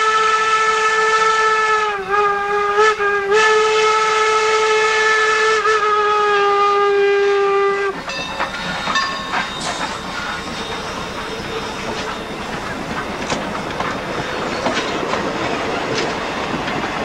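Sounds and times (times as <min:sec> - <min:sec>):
steam locomotive whistle blast: 0:00.0 - 0:15.1.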